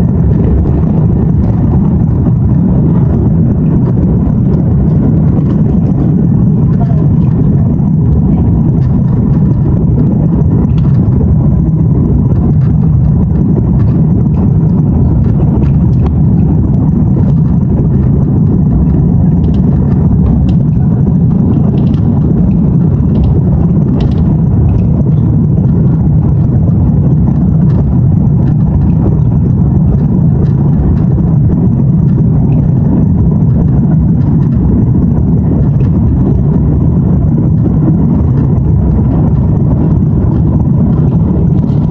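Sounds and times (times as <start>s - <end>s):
faint ticks and rattles: 0.0s - 41.9s
jet engines deep rumble: 0.0s - 41.9s.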